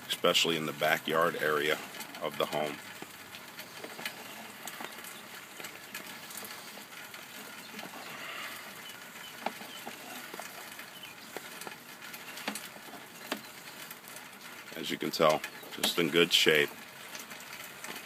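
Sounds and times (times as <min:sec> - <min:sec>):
light rain pattering: 0:00.0 - 0:18.0.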